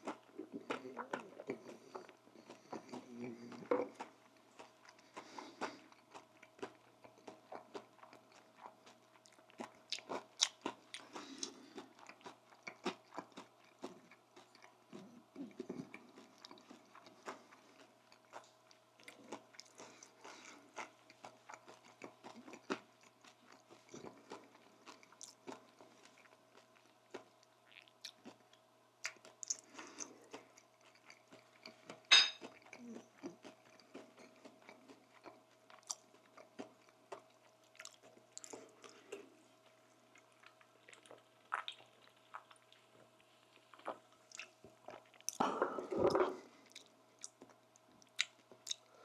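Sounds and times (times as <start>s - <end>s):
chewing and crunching: 0.0s - 49.0s.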